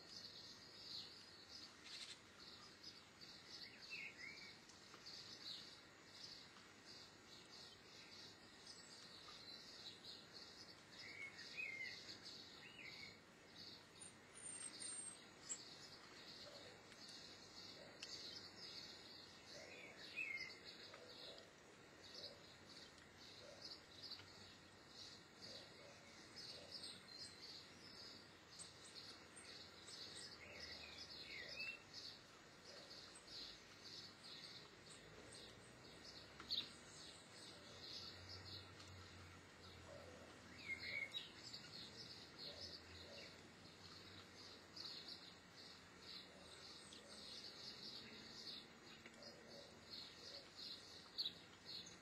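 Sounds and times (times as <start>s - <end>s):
faint high-pitched chirping: 0.0s - 52.0s.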